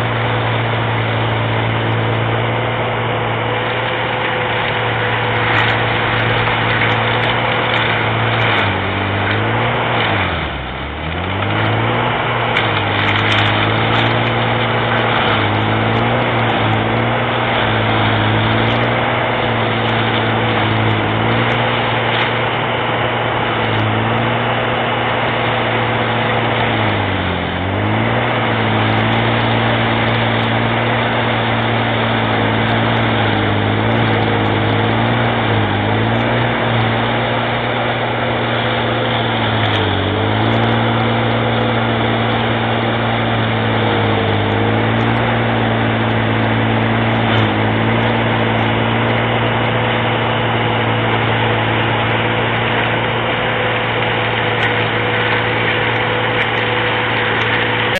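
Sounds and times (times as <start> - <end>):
diesel engine running hard: 0.0 - 57.9
mulcher rotor grinding brush: 0.0 - 57.9.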